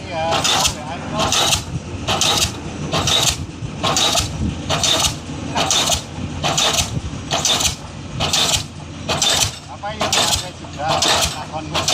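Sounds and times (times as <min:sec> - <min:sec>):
rumble of pile hammer: 0:00.0 - 0:11.9.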